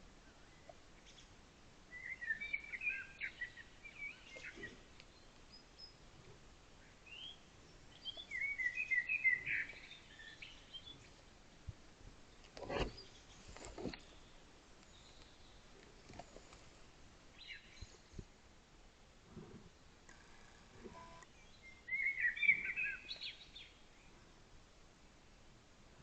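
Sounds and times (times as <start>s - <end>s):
songbird chirping: 0.0s - 11.6s, 12.3s - 18.3s, 19.4s - 24.4s
faint background hiss: 0.0s - 26.0s.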